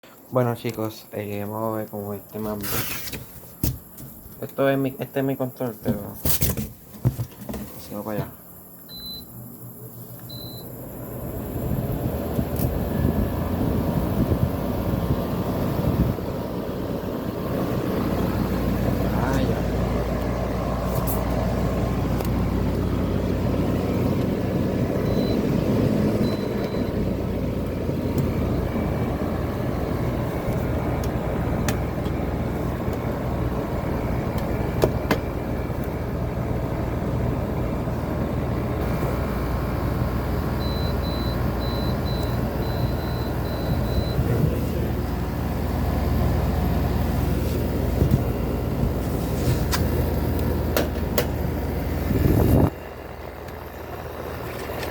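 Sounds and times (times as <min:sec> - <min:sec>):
low machine rumble: 0:08.3 - 0:54.9.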